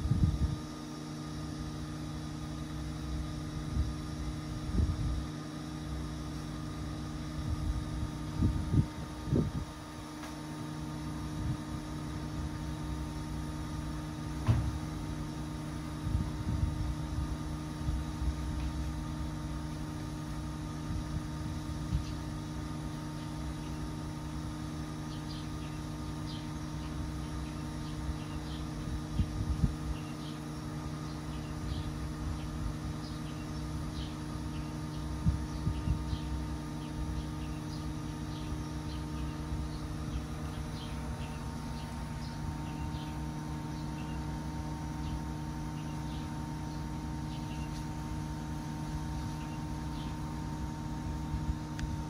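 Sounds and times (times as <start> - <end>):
mechanical hum of held tones: 0.0 - 52.0.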